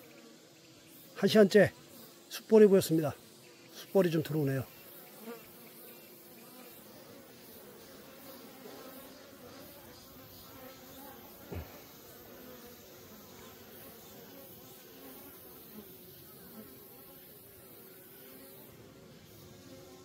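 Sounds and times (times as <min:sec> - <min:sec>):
bee flying past: 0:00.0 - 0:20.0
bees buzzing: 0:00.0 - 0:20.0.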